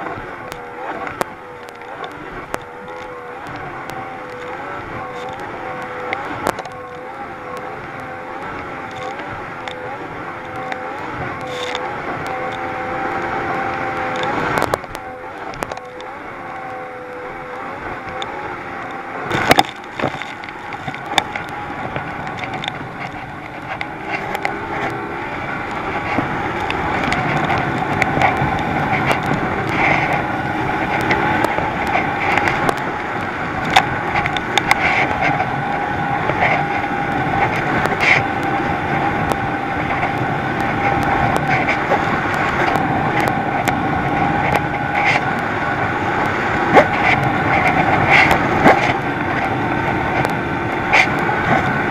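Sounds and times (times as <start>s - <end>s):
hull slapping water: 0.0s - 51.9s
outboard motor running: 0.0s - 51.9s.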